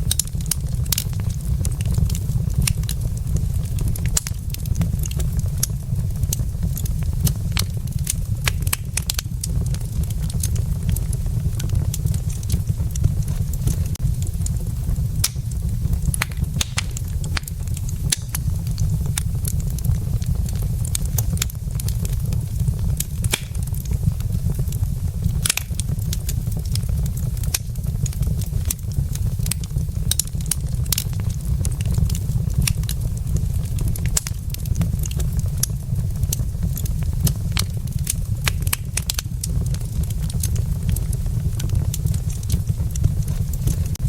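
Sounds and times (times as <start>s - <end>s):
logs crackling in a fireplace: 0.0s - 44.0s.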